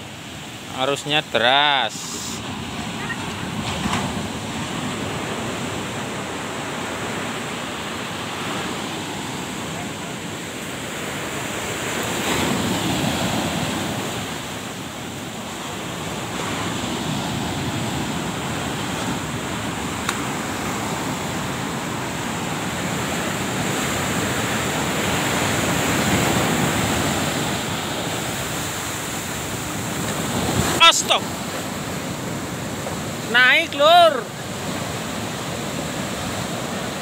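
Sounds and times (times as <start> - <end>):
heavy surf crashing on beach: 0.0 - 37.0.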